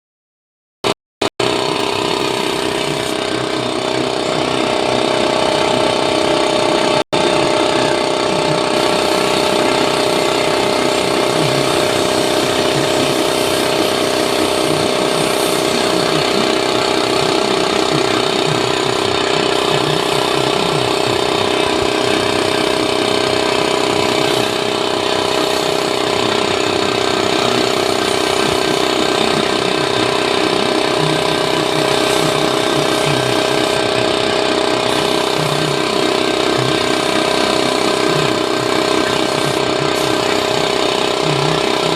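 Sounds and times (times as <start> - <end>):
machine motor rattling and humming: 1.4 - 41.9.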